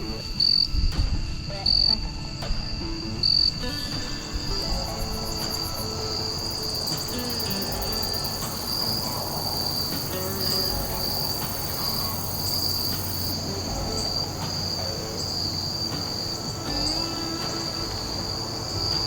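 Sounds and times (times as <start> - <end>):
insect chorus chirring: 0.0 - 19.0.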